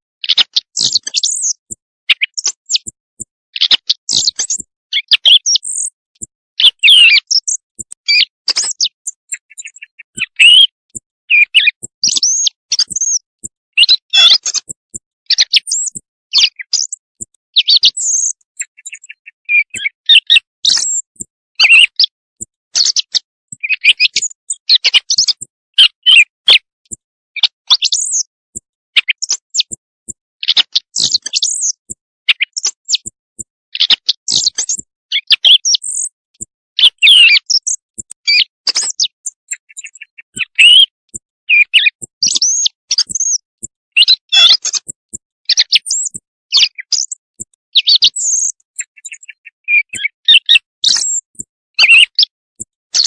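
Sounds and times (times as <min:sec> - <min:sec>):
quail calls chirping and trilling: 0:00.2 - 0:26.7, 0:27.4 - 0:28.3, 0:29.0 - 0:33.2, 0:33.8 - 0:36.2, 0:36.8 - 0:52.7.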